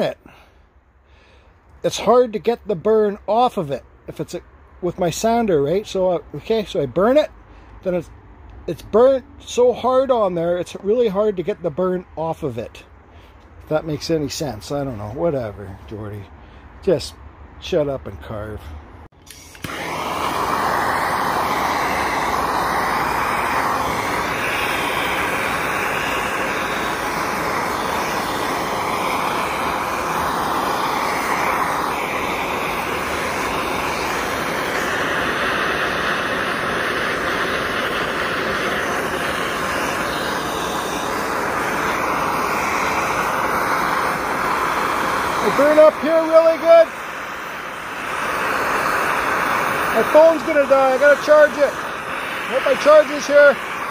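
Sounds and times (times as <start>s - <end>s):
gas torch flame hissing: 0.0s - 17.0s, 19.2s - 53.9s.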